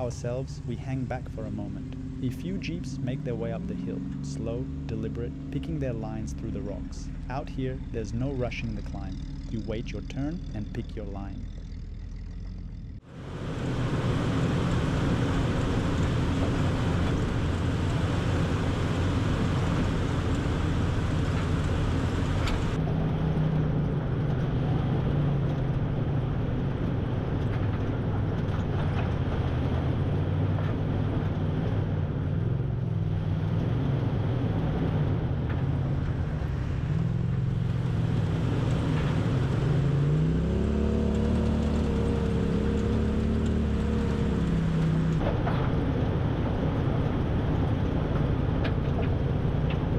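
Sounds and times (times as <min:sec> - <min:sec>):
off-road vehicle engine running: 0:00.0 - 0:49.9.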